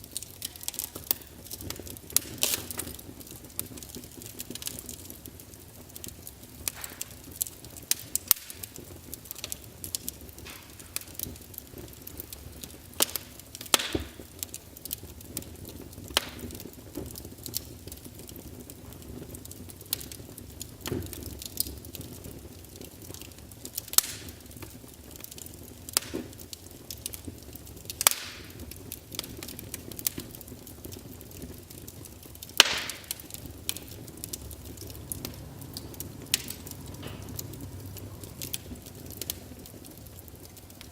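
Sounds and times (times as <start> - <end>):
burning logs popping and snapping: 0.0 - 40.9
flames hissing: 0.0 - 40.9.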